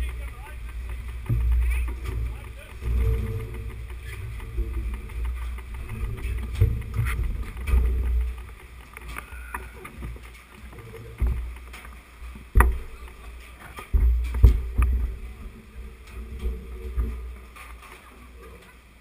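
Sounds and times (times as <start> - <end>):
footsteps on metal steps: 0.0 - 18.8
low uneven rumble: 0.0 - 19.0
mountain bikes clattering: 0.0 - 19.0.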